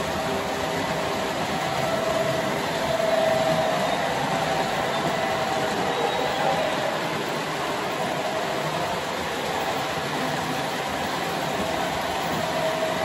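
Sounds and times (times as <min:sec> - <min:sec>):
model train motors whirring: 0:00.0 - 0:13.0
wheels rumbling on rails: 0:00.0 - 0:13.0.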